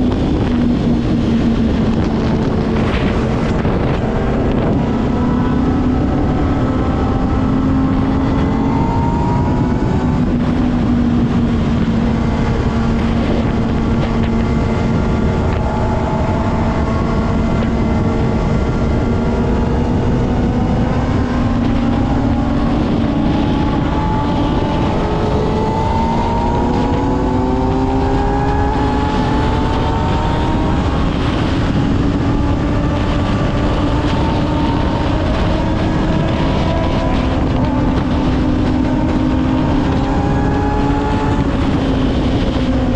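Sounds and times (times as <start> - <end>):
motorcycle engine cruising: 0.0 - 42.9
wind noise: 0.0 - 42.9.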